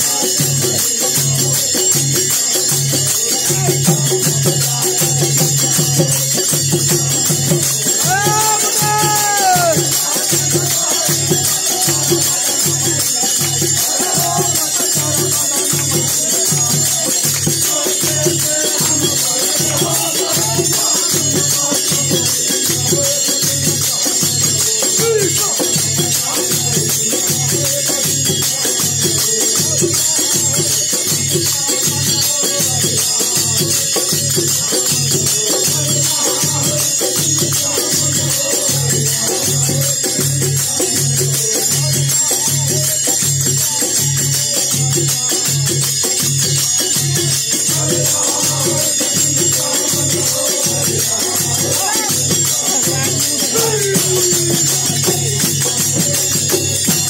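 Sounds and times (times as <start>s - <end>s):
drum steady beat: 0.0s - 57.0s
hand cymbals clashing: 0.0s - 57.0s
voices singing: 0.0s - 57.0s.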